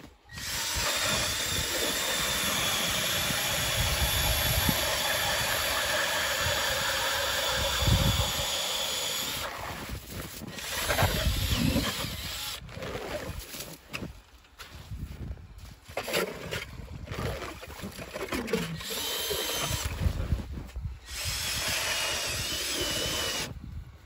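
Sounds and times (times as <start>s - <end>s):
drill boring through ice: 0.3s - 13.7s, 16.0s - 20.4s, 21.0s - 23.6s.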